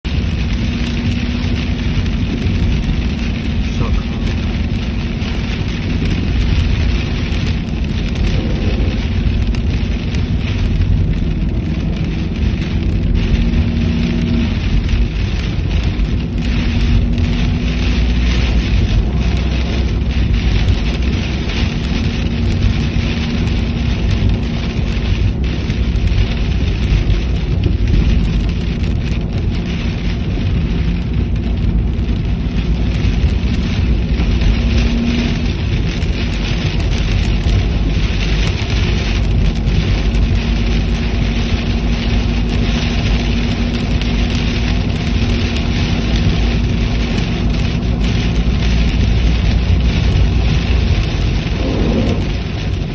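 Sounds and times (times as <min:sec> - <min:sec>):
deep rumble: 0:00.0 - 0:52.9
floodwater rushing: 0:00.1 - 0:52.9.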